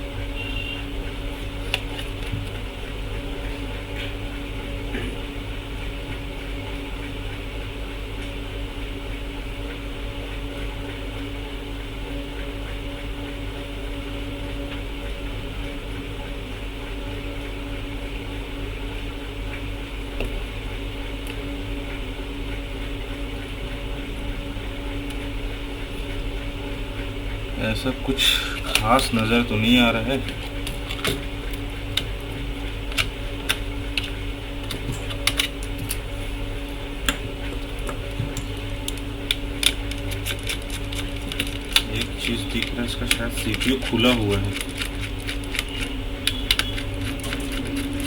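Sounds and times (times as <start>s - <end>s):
fan humming: 0.0s - 48.0s.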